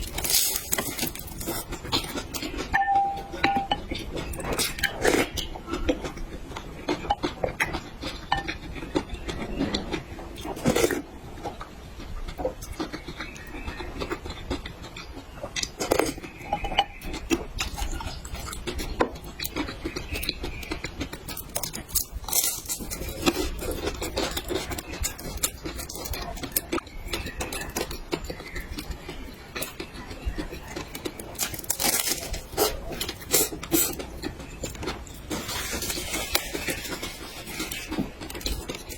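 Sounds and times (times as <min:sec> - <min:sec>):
chewing: 0:00.0 - 0:38.9.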